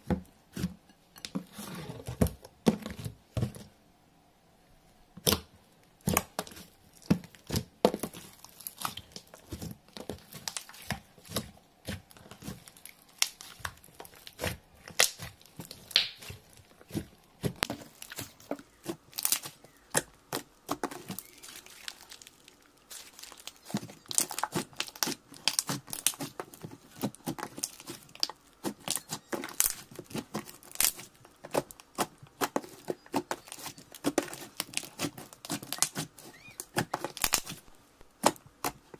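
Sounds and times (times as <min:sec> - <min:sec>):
hands squishing slime: 0:05.2 - 0:38.9
sticky pops and crackles: 0:05.2 - 0:38.9.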